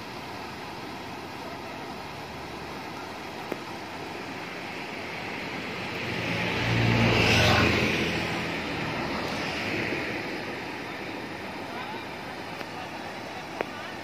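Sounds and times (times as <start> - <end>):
water rushing over weir: 0.0 - 14.0.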